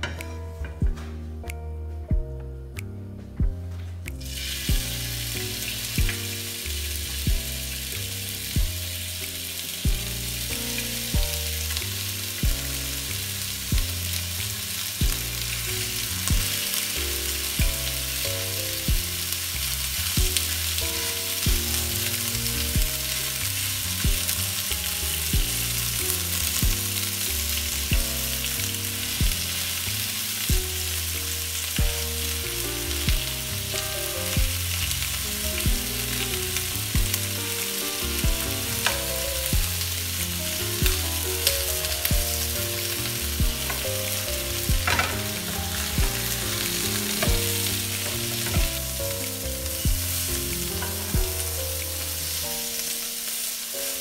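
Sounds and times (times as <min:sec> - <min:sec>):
background music with steady beat: 0:00.0 - 0:19.4, 0:20.2 - 0:29.7, 0:30.3 - 0:53.2
skewers sizzling in hot oil: 0:04.2 - 0:54.0.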